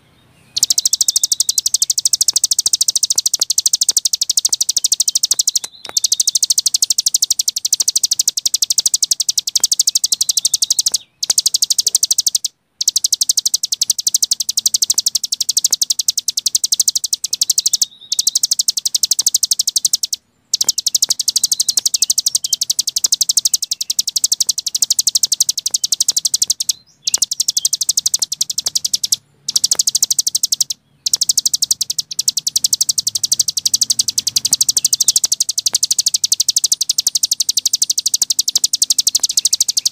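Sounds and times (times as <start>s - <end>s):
songbird buzzing trill: 0.0s - 39.9s.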